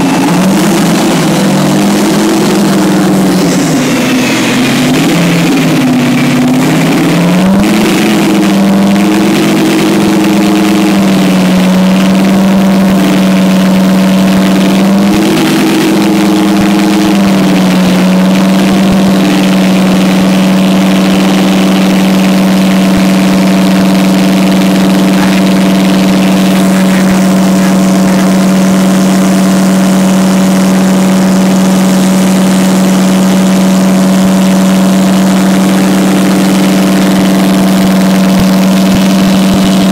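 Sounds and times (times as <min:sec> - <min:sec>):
diesel engine running loud: 0:00.0 - 0:39.9.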